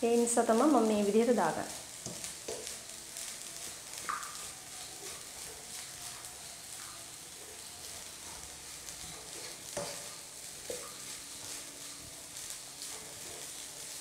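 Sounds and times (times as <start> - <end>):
rice sizzling in a pan: 0.0 - 14.0
wooden spatula stirring: 1.7 - 14.0.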